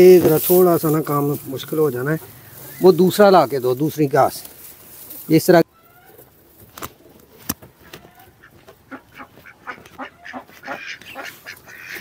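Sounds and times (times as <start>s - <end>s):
birds calling: 0.0s - 12.0s
dry straw rustling on wood: 0.0s - 12.0s.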